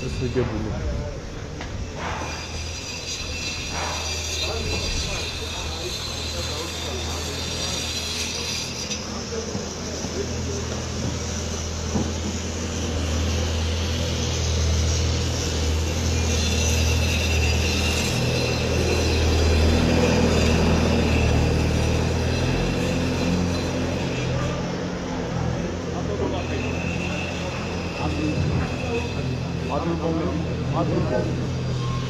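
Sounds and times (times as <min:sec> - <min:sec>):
construction machine engine running: 0:00.0 - 0:32.0.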